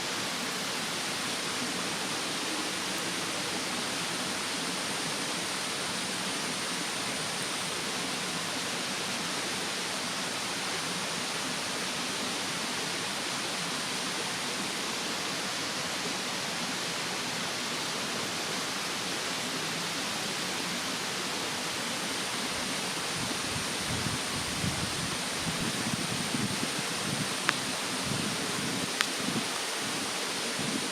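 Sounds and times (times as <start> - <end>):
mountain stream rushing: 0.0 - 30.9.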